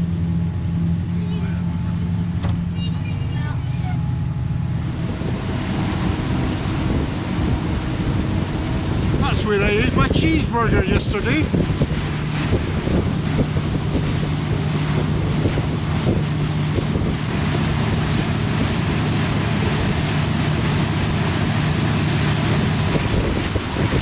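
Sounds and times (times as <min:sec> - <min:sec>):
boat engine droning: 0:00.0 - 0:24.0
water rushing: 0:00.0 - 0:24.0
wind: 0:00.0 - 0:24.0.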